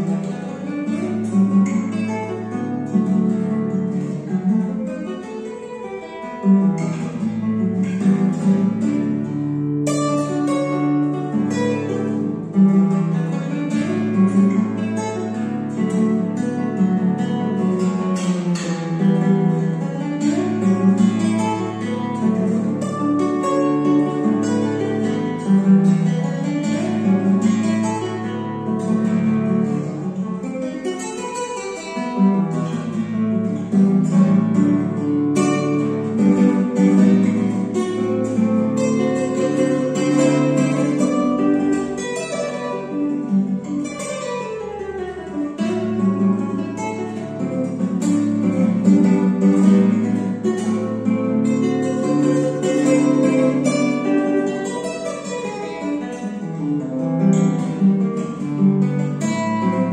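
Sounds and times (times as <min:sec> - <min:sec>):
fingerpicked nylon-string guitar: 0:00.0 - 0:59.9.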